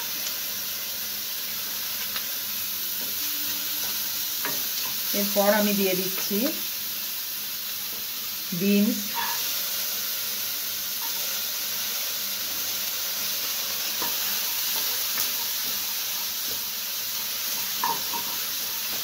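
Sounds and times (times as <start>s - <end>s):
vegetables sizzling in butter: 0.0s - 19.0s.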